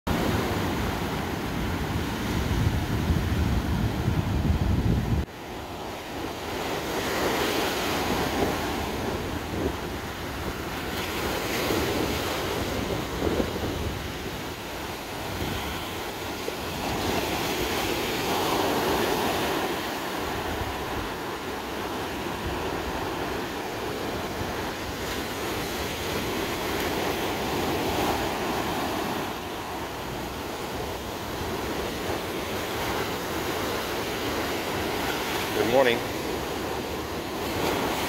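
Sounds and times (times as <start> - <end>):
ocean surf washing up beach: 0.1 - 38.0.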